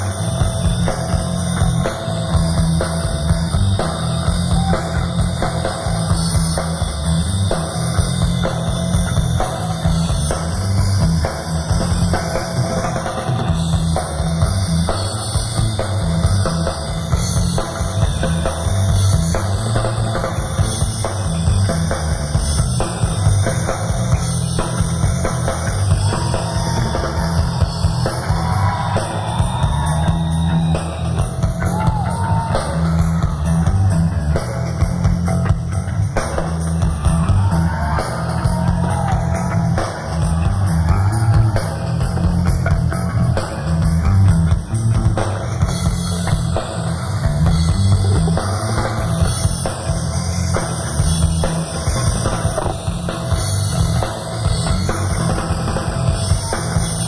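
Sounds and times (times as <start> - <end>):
bass guitar: 0.0 - 57.0
electric guitar: 0.0 - 57.0
pounding drum kit: 0.0 - 57.0.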